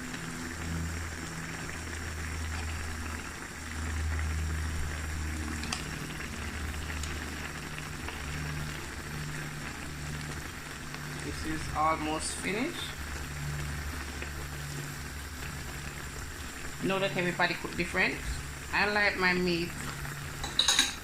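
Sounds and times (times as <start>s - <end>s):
low hum: 0.0s - 18.8s
stew simmering and bubbling: 0.0s - 21.0s.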